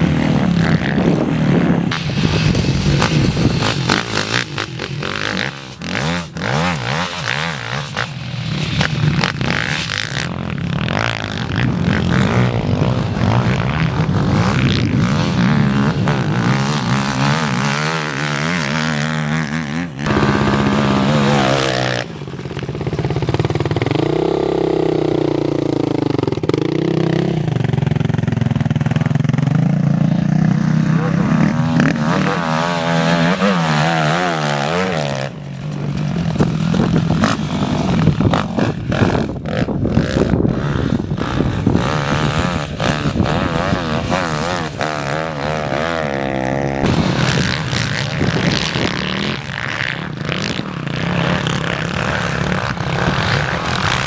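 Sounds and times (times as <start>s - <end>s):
quad engines revving: 0.0s - 54.0s.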